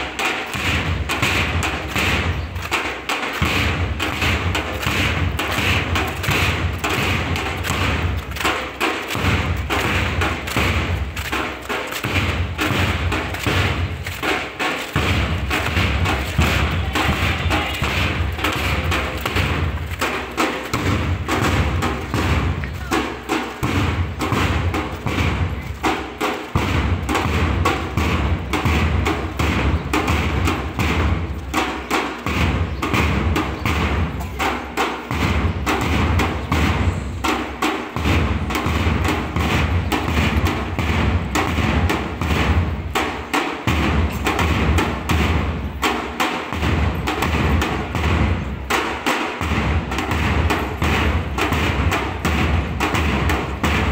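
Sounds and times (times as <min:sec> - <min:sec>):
bass drums beating march rhythm: 0:00.0 - 0:53.9.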